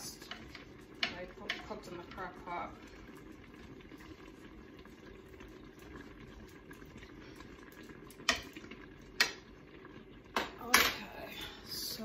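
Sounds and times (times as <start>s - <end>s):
pot simmering: 0.0s - 12.0s.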